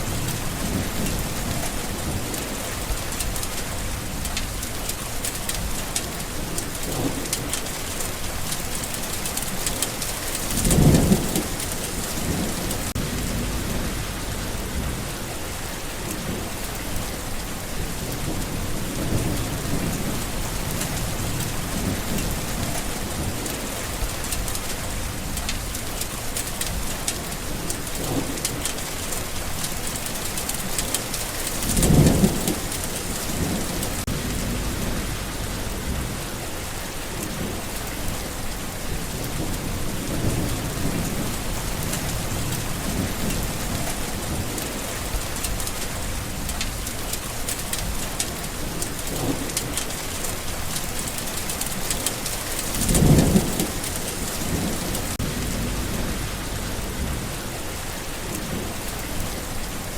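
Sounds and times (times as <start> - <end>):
rain falling: 0.0 - 59.9
thunder rumbling: 0.0 - 59.9.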